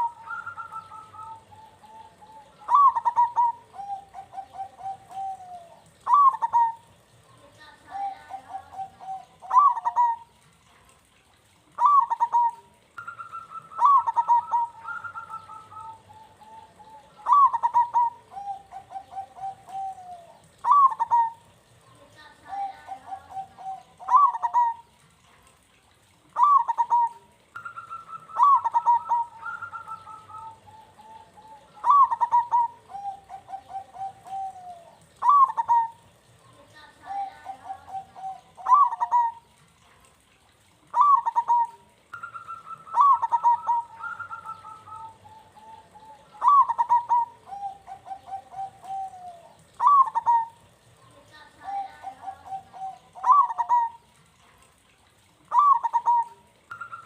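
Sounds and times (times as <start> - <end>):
dove cooing: 0.0 - 10.8, 11.7 - 39.6, 40.4 - 54.4, 55.1 - 57.0.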